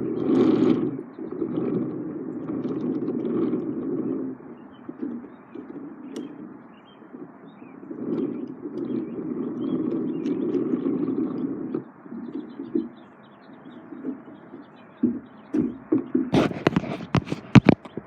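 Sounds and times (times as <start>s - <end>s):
wheels clicking on track: 0.0s - 18.0s.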